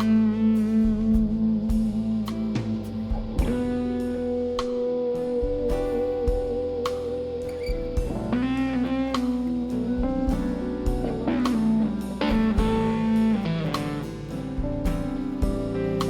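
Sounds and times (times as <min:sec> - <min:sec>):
blues electric guitar: 0:00.0 - 0:16.0
drum kit beat: 0:00.0 - 0:16.0.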